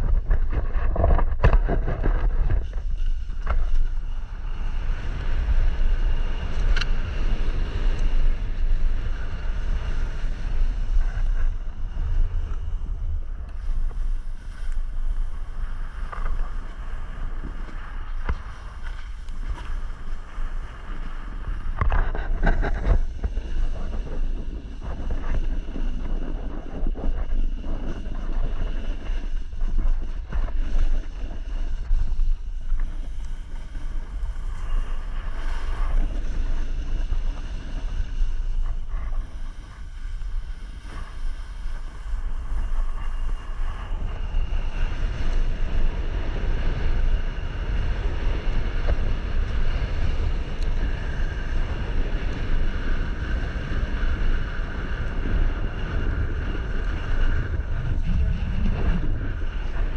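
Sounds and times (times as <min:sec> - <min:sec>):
wind buffeting microphone: 0:00.0 - 0:59.9
skis hissing over snow: 0:01.9 - 0:59.9.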